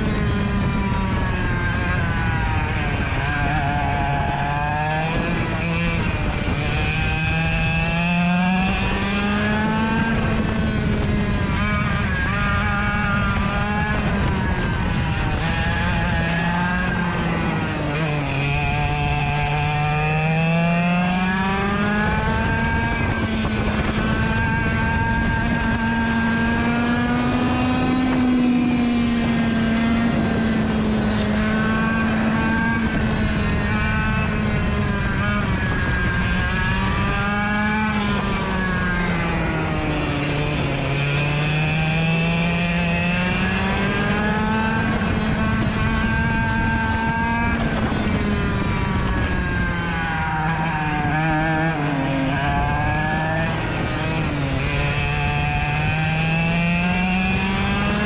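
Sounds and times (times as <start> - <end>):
kart engine at high revs: 0.0 - 58.0.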